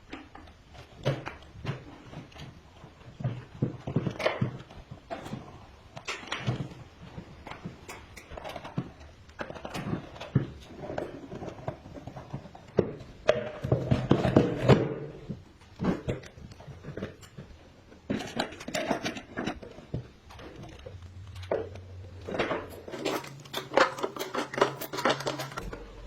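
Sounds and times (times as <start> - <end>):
hard objects clattering: 0.0 - 26.0.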